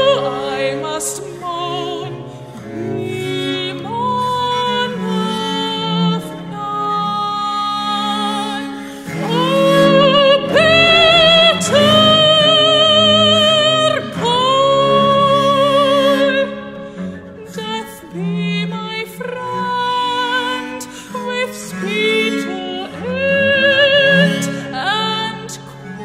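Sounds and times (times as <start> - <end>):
woman singing with vibrato: 0.0 - 16.8, 17.4 - 26.0
low bowed viola da gamba: 0.0 - 26.0.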